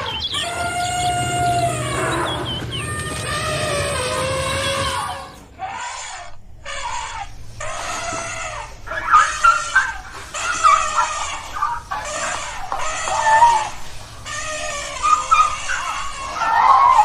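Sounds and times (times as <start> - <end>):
short pitched animal calls: 0.0 - 17.0.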